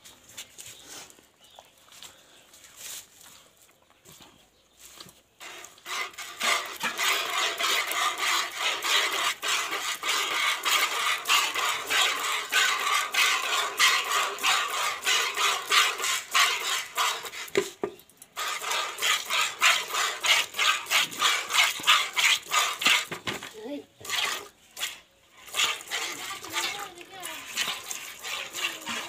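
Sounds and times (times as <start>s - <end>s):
milk squirting into bucket: 5.4s - 29.0s.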